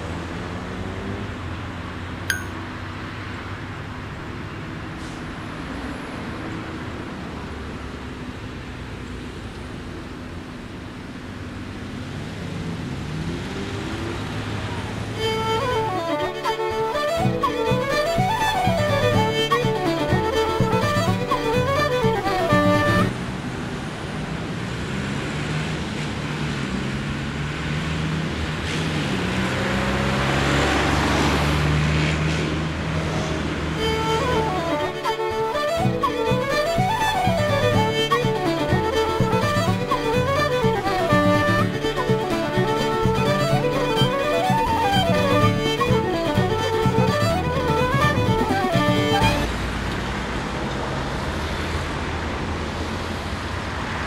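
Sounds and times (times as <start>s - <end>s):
vehicle engine humming: 0.0s - 23.4s, 29.7s - 49.9s
cars passing: 0.0s - 54.0s
road noise: 0.0s - 54.0s.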